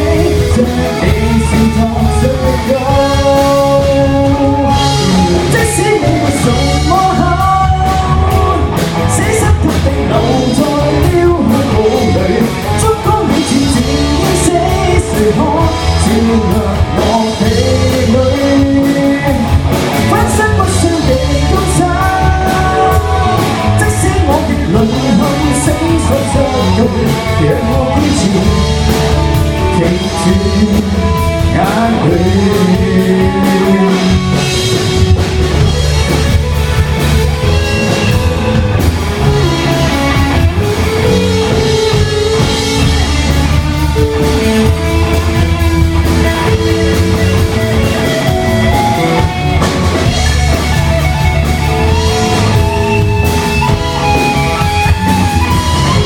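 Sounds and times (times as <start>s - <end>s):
drum kit: 0.0s - 56.0s
guitar: 0.0s - 56.0s
person singing: 0.0s - 56.0s.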